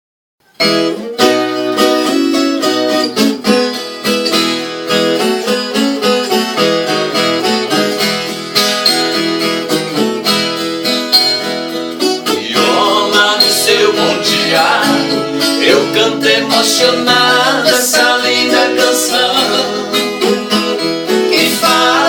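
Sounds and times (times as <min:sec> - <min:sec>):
ten-string folk guitar picking: 0:00.5 - 0:22.0.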